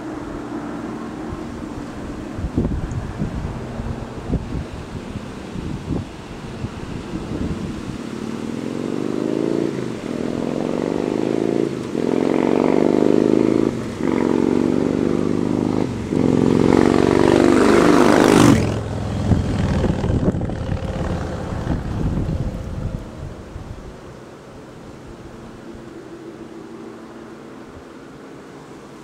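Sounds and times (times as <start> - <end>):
motorcycle accelerating past: 0.0 - 24.0.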